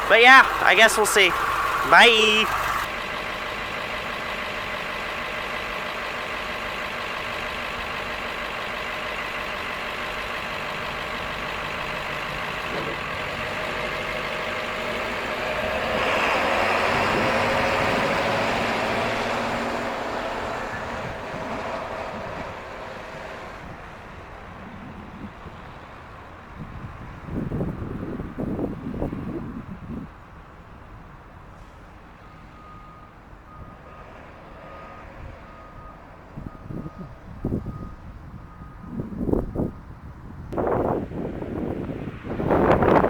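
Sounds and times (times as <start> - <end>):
bus diesel engine idling and revving: 0.0 - 43.0.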